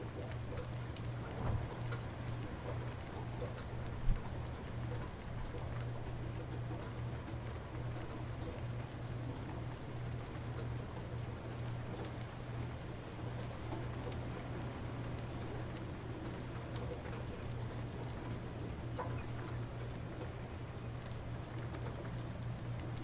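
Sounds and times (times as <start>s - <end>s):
faint drip ticks: 0.0s - 23.0s
light rain falling: 0.0s - 23.0s.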